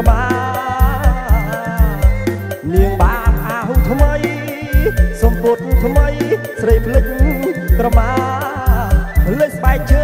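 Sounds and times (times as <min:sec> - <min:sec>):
live band dance music: 0:00.0 - 0:10.0.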